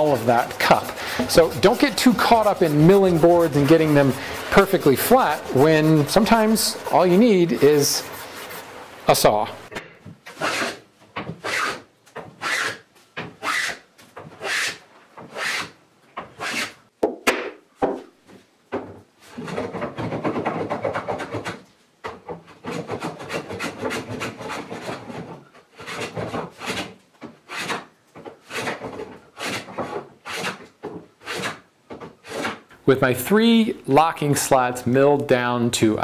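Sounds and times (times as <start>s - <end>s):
hand plane shaving wood: 0.0s - 9.4s, 10.3s - 10.8s, 11.4s - 16.8s, 19.2s - 32.7s.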